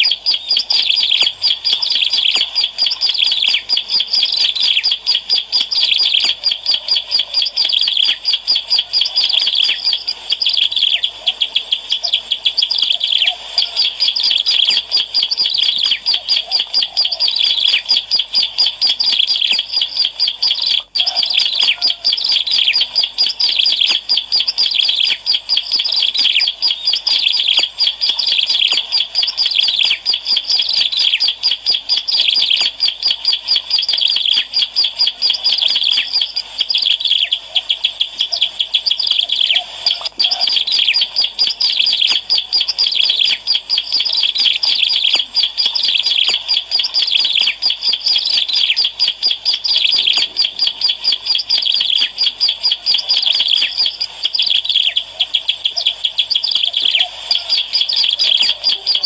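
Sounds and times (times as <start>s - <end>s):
bird rapid high chirping: 0.0s - 59.0s.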